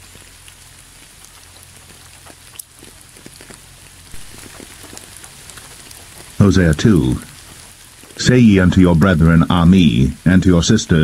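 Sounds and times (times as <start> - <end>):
low steady hum: 0.0 - 11.0
rain pattering: 0.0 - 11.0.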